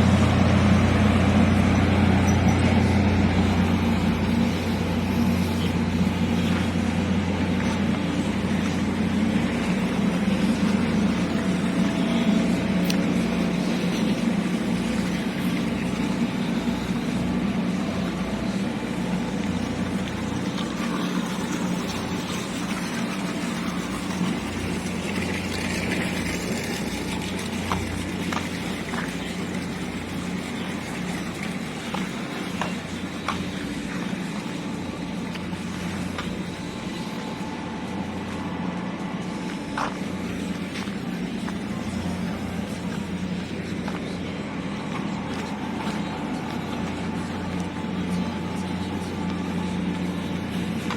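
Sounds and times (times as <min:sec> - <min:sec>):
motor engine droning: 0:00.0 - 0:50.9.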